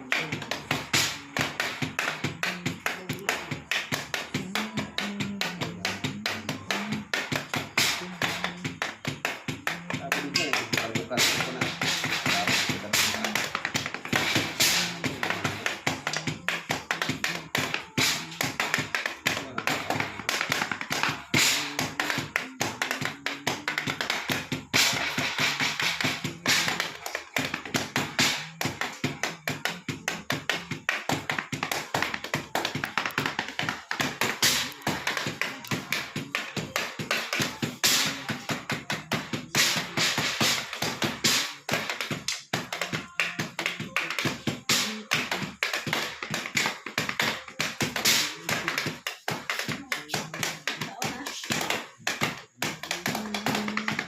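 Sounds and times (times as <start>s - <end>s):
fast drumming: 0.0s - 54.0s.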